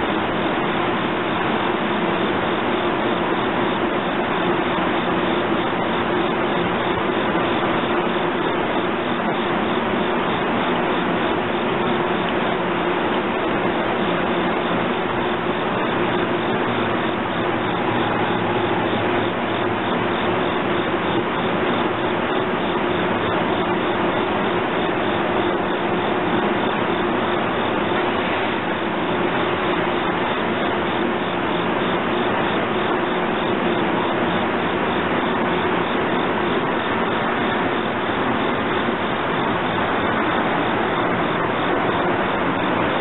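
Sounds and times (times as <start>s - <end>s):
faint steady tones: 0.0s - 43.0s.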